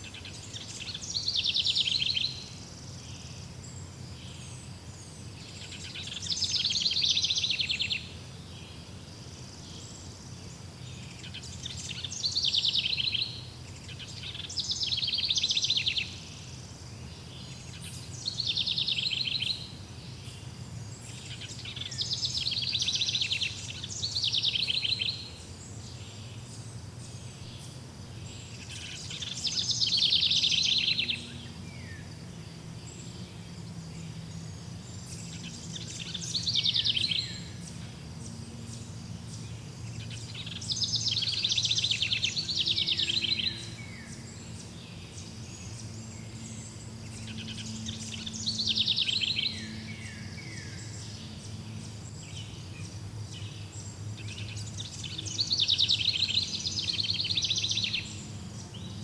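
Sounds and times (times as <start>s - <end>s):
songbird trilling: 0.0s - 4.7s, 5.4s - 8.8s, 10.9s - 16.5s, 17.2s - 59.0s.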